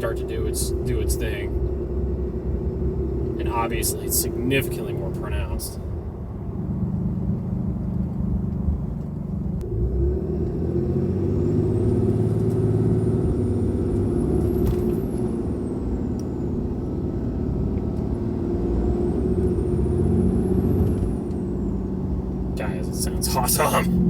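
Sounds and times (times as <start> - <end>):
diesel engine rumble: 0.0 - 24.0.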